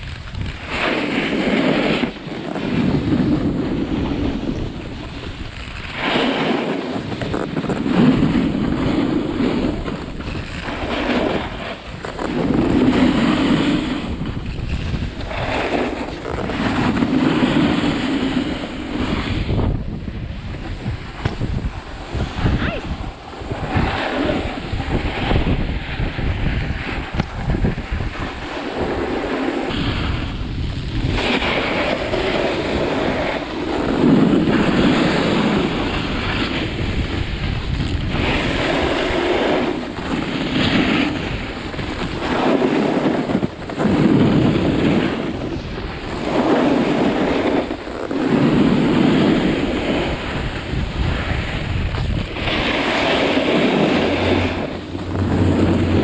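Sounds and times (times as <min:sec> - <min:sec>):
snowboard edges scraping snow: 0:00.0 - 0:56.0
wind rushing over microphone: 0:00.0 - 0:56.0.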